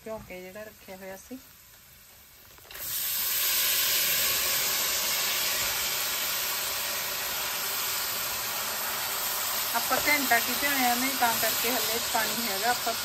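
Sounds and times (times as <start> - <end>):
sago pearls sizzling in hot oil: 0.0 - 13.0
water spitting in hot oil: 0.3 - 13.0.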